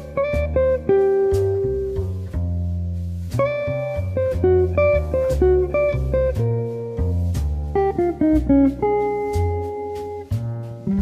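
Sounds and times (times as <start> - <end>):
bass line: 0.0 - 11.0
plucked guitar melody: 0.0 - 11.0.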